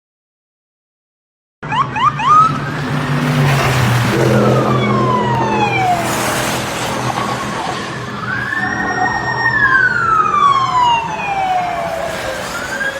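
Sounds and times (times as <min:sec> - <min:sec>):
police siren wailing: 0:01.6 - 0:12.9
vehicle engine drone: 0:01.6 - 0:12.9.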